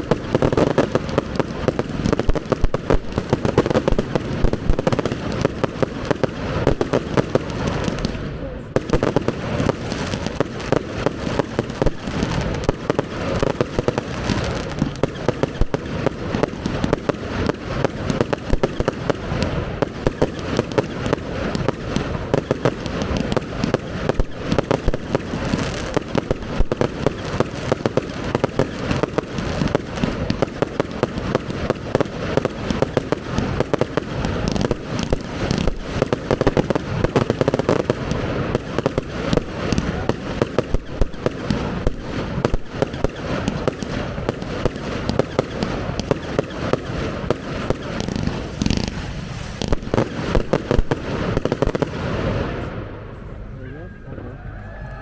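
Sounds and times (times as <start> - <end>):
fireworks bangs and crackle: 0.0 - 53.4.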